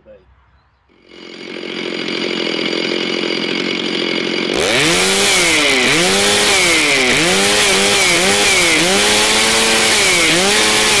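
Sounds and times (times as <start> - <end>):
chainsaw revving: 0.9 - 11.0.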